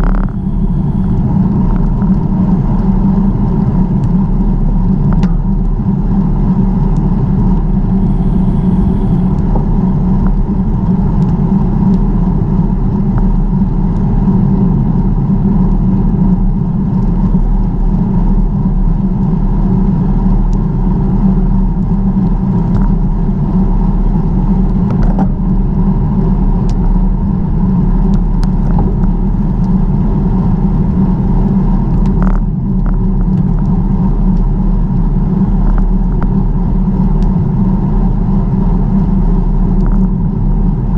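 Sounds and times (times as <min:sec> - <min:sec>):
bicycle tyre noise: 0:00.0 - 0:40.9
wind rumble: 0:00.0 - 0:40.9.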